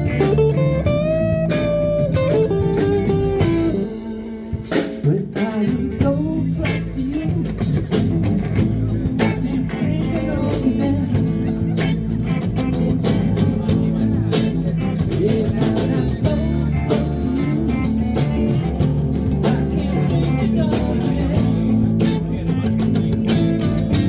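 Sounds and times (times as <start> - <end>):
drum hits: 0.0 - 24.0
electric guitar lead: 0.0 - 24.0
live blues band playing: 0.0 - 24.0.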